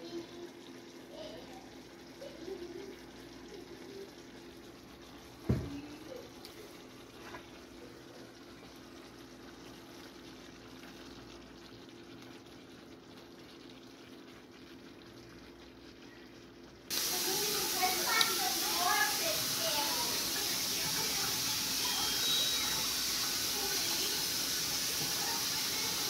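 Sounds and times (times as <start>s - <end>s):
butter bubbling in a frying pan: 0.0s - 26.0s.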